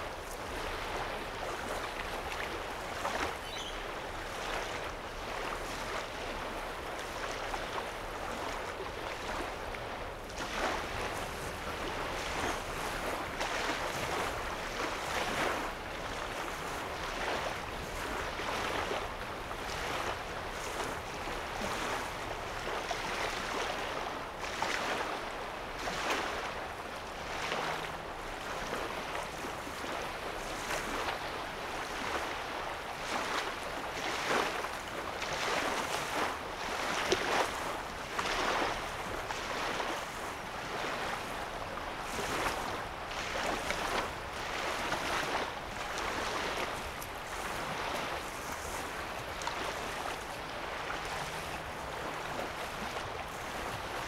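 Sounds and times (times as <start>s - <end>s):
waves lapping on sandy shore: 0.0s - 54.0s.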